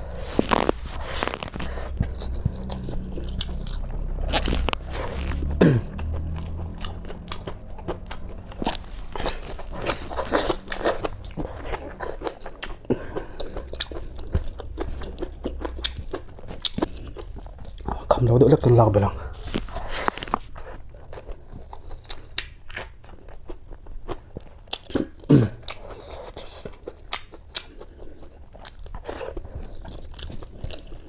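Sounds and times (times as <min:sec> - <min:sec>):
person chewing and biting: 0:00.0 - 0:18.2, 0:19.6 - 0:31.0.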